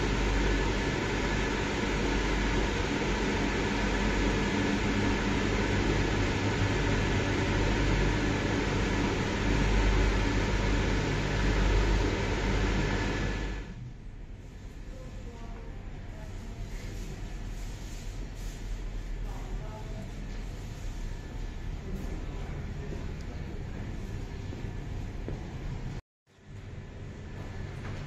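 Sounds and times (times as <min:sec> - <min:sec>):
ventilation fan hum: 0:00.0 - 0:28.0.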